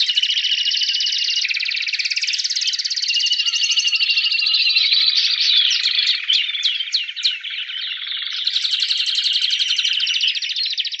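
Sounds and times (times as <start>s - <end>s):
canary singing in rapid trills: 0.0s - 11.0s.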